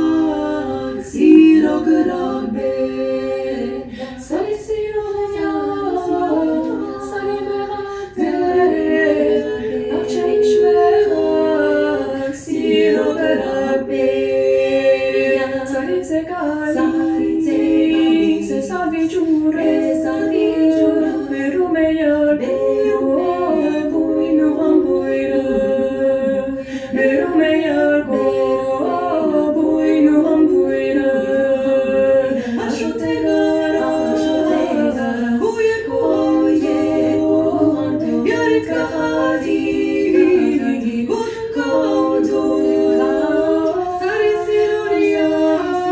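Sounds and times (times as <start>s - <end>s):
voices singing in harmony: 0.0s - 45.9s.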